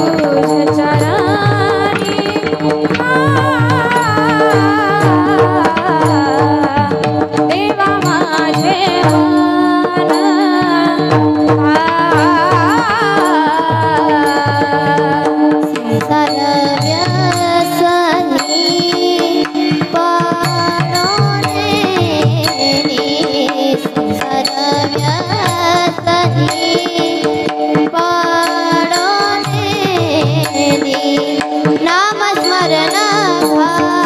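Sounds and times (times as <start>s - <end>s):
young female voices singing: 0.0s - 6.8s, 7.5s - 34.0s
hand drum: 0.0s - 34.0s.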